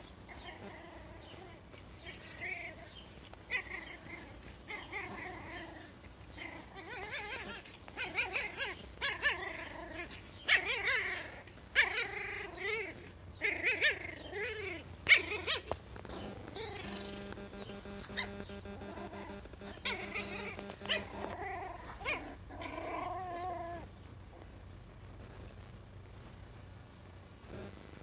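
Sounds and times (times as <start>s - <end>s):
puppy yipping and whining: 0.3s - 23.9s.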